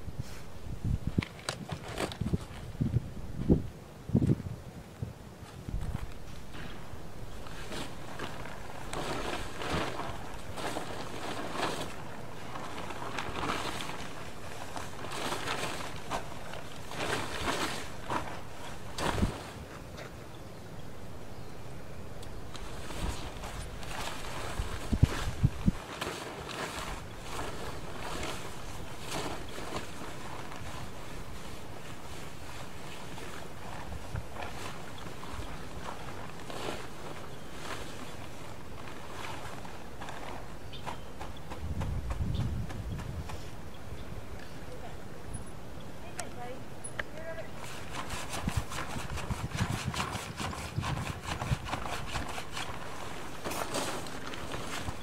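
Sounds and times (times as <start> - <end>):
tarp rustling: 0.0 - 3.6, 5.4 - 20.0, 22.4 - 43.6, 47.2 - 55.0
wind buffeting microphone: 0.0 - 19.5, 22.3 - 25.9, 26.7 - 45.4, 47.5 - 55.0.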